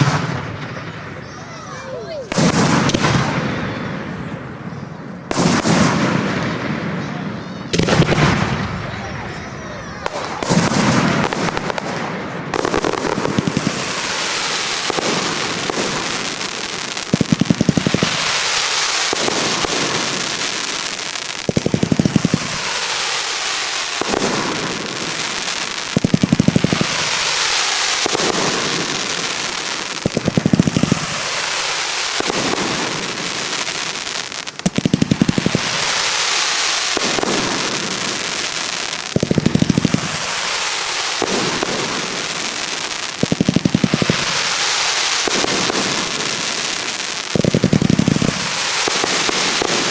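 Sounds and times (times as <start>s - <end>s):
crackling firework fizz: 0.0s - 49.9s
firework bangs: 0.0s - 49.9s.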